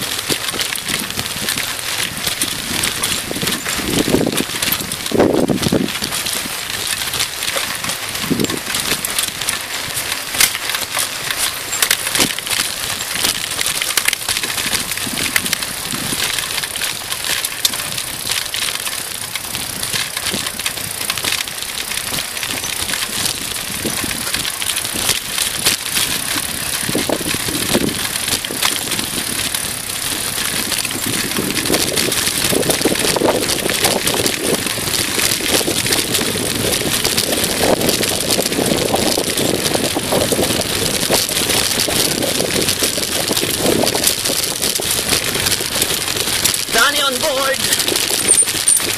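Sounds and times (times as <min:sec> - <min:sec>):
bike rattling and knocking: 0:00.0 - 0:48.9
tyres rolling on dirt and gravel: 0:00.0 - 0:48.9.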